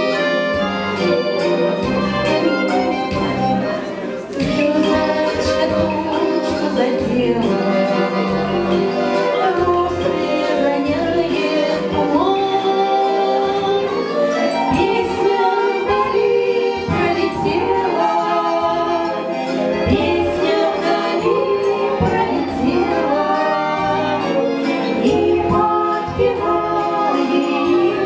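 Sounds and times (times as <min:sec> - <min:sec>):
musical accompaniment: 0:00.0 - 0:28.0
two women singing duet: 0:04.3 - 0:28.0.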